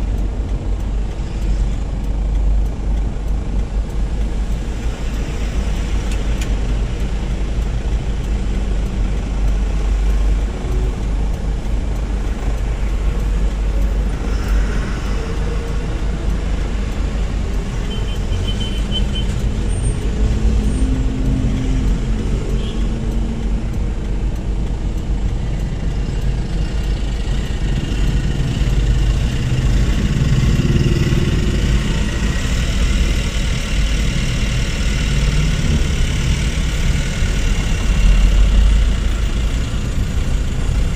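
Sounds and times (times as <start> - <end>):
vehicle engine and road rumble: 0.0 - 40.9.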